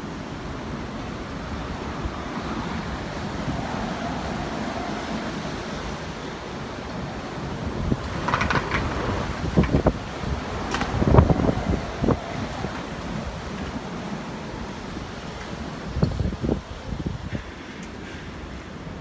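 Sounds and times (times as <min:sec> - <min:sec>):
wind and rain roaring: 0:00.0 - 0:19.0
wind buffeting microphone: 0:00.2 - 0:19.0.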